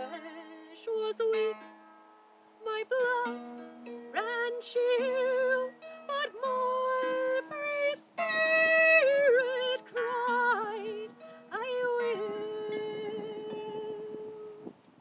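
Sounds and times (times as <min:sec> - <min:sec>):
woman singing a hymn: 0:00.0 - 0:01.7, 0:02.6 - 0:03.5, 0:04.1 - 0:14.8
harp plucked notes: 0:00.0 - 0:14.6.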